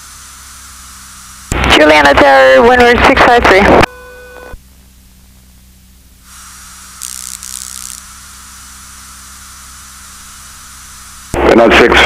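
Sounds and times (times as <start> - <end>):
radio static hiss: 0.0 - 3.9, 6.2 - 12.0
steady low hum: 0.0 - 12.0.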